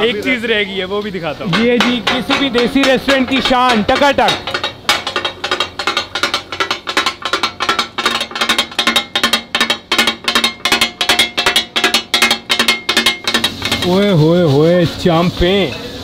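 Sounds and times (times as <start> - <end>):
spatulas clanging on griddle: 1.4 - 16.0.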